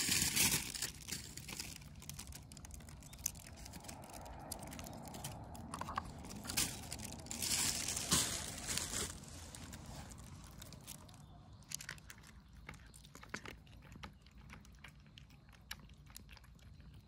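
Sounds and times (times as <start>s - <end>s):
cats crunching dry kibble: 0.0s - 17.0s.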